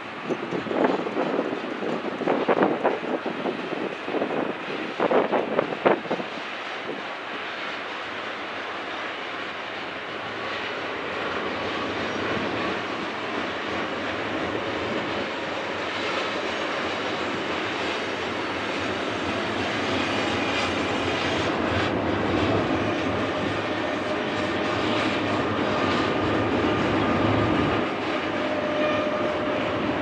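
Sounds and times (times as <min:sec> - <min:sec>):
freight train wheels clattering: 0:00.0 - 0:30.0.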